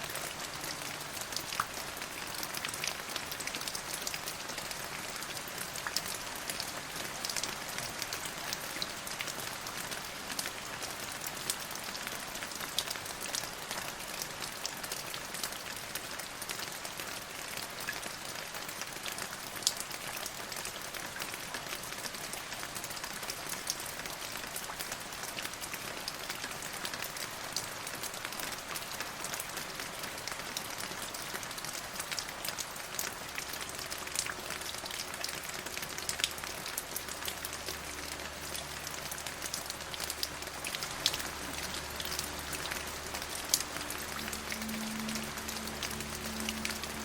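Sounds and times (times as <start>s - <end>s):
rain drops ticking: 0.0s - 47.0s.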